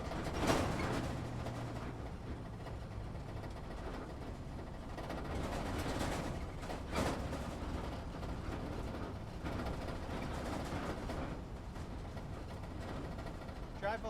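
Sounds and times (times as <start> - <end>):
engine and drivetrain rumble: 0.0 - 14.0.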